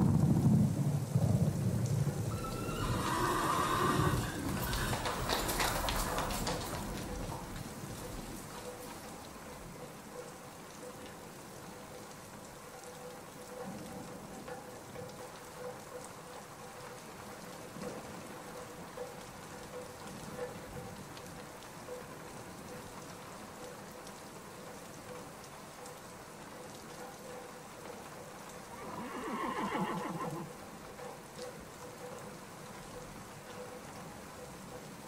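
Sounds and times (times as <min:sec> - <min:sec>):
rain drops ticking: 0:00.0 - 0:35.0
steady rain falling: 0:00.0 - 0:35.0.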